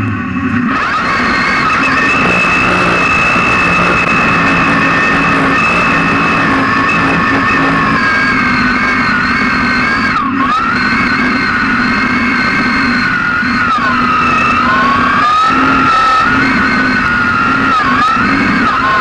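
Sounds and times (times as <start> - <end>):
high whine: 0.0 - 19.0
truck engine revving high: 0.0 - 19.0.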